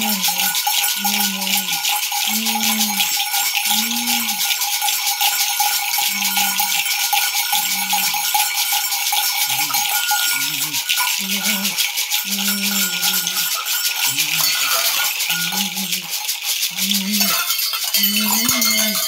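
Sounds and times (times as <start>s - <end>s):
low voice chanting: 0.0s - 4.6s, 6.0s - 6.8s, 7.4s - 8.4s, 9.4s - 19.0s
maracas shaken: 0.0s - 19.0s
metal bells jingling: 0.0s - 19.0s.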